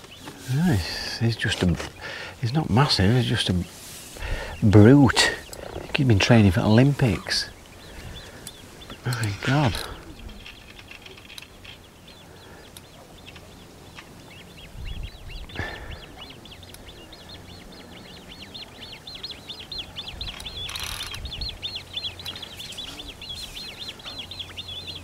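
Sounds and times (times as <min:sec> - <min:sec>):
small bird singing chirps: 0:00.0 - 0:25.0.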